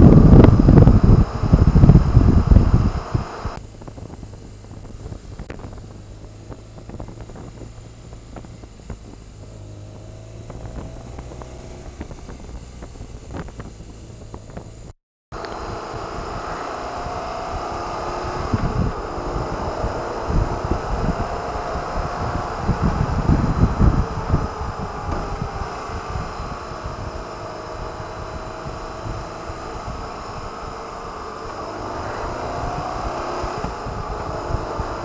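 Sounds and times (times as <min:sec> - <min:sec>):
motorcycle engine running: 0:00.0 - 0:35.0
wind rush: 0:00.0 - 0:35.0.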